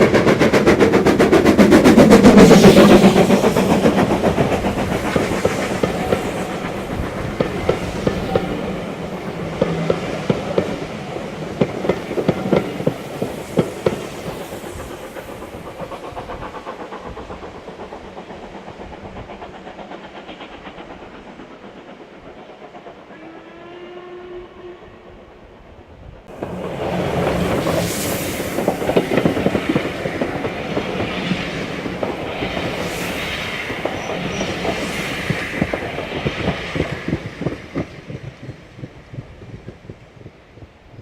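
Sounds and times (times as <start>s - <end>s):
train wheels clacking over rail joints: 0.0s - 23.4s, 26.3s - 40.7s.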